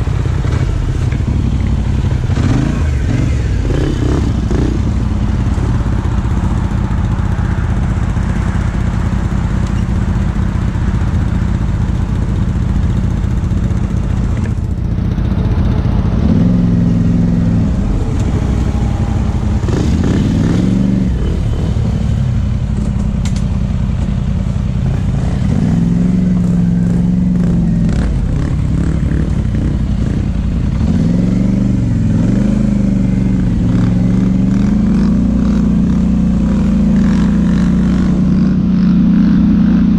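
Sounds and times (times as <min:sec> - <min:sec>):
atv engine idling and revving: 0:00.0 - 0:39.9.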